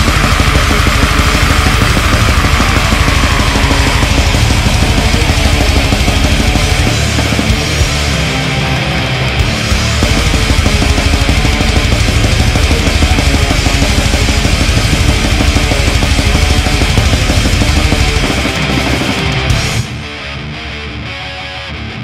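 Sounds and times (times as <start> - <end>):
rapid drumming with fast kick drum: 0.0 - 8.2, 9.4 - 19.8
distorted electric guitars: 0.0 - 22.0.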